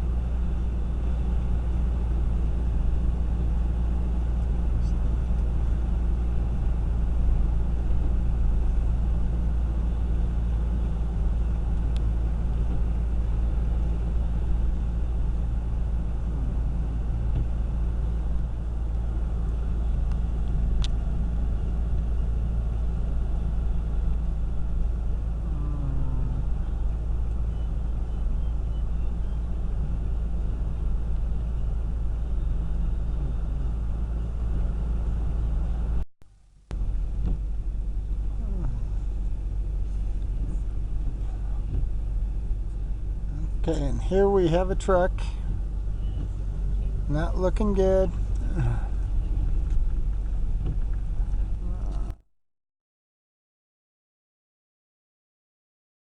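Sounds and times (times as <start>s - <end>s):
car rumble inside cabin: 0.0s - 52.3s.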